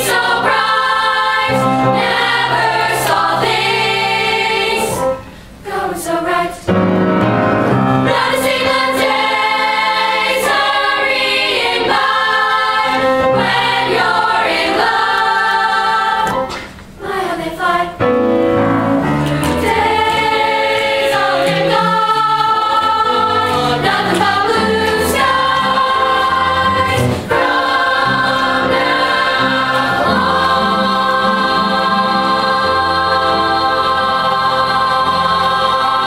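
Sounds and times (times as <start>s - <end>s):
youth choir singing: 0.0s - 6.8s, 8.0s - 36.0s.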